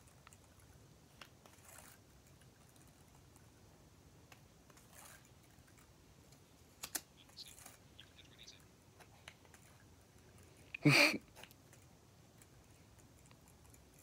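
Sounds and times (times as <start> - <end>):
faint clicks and taps: 0.0 - 3.5, 4.2 - 14.0.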